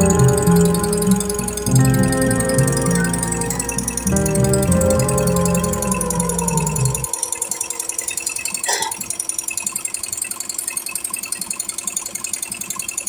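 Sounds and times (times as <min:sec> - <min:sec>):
embroidery machine ticking: 0:00.0 - 0:13.0.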